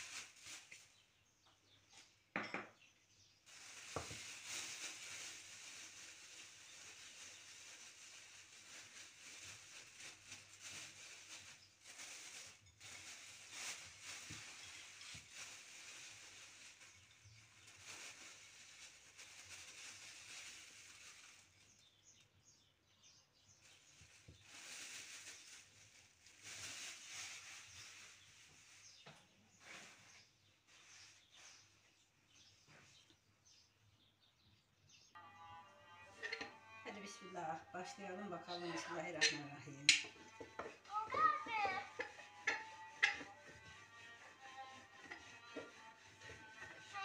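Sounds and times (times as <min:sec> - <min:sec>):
plastic bag rustling: 0:00.0 - 0:01.3, 0:03.4 - 0:22.0, 0:23.6 - 0:33.0, 0:35.9 - 0:47.0.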